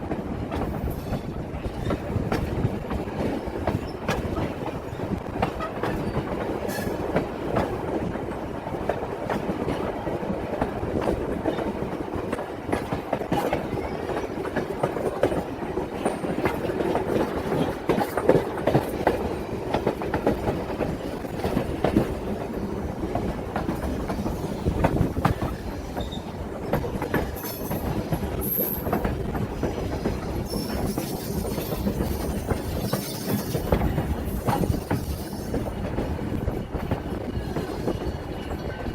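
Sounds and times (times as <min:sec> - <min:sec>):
train wheels clicking on rails: 0:00.0 - 0:38.9.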